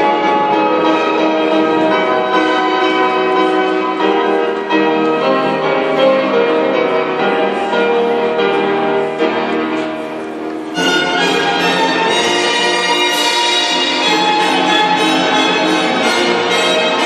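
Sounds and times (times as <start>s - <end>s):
instrumental music with held notes: 0.0s - 17.0s.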